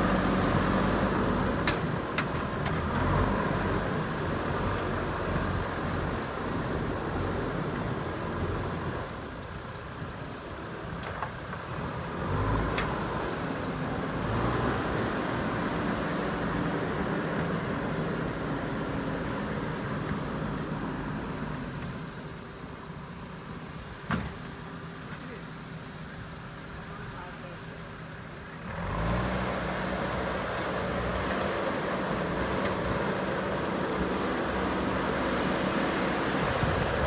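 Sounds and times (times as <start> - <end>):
backhoe diesel engine under load: 0.0 - 37.0.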